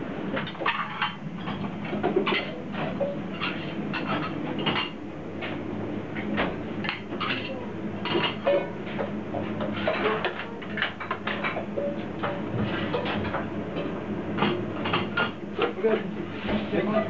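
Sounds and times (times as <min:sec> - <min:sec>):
steady low hum: 0:00.0 - 0:17.0
clatter of pans and plates: 0:00.3 - 0:05.0, 0:06.4 - 0:17.0.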